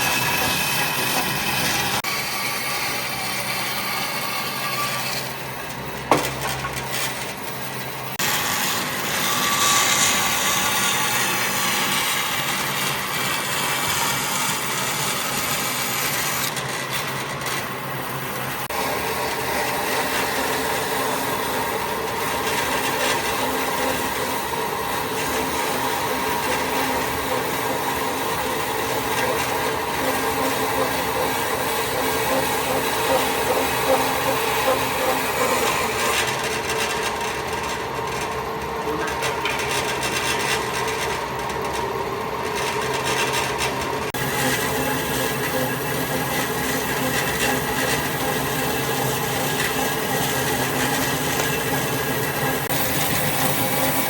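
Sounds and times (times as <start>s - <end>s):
power tools grinding wood: 0.0s - 54.0s.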